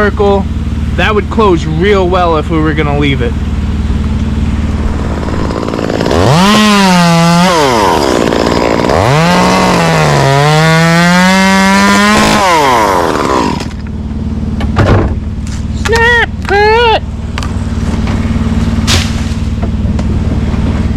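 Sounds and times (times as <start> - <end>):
chainsaw idling and revving: 0.0 - 14.6, 16.4 - 20.9.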